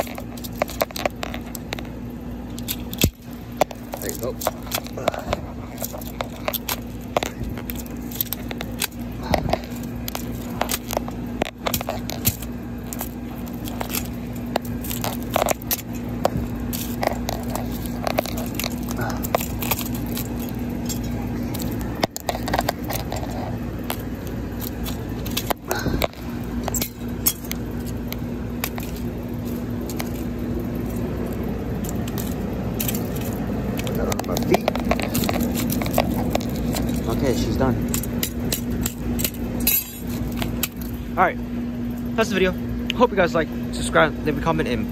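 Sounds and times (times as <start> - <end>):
metal stake smashing plastic and glass: 0.0 - 41.0
steady low hum: 0.0 - 44.9.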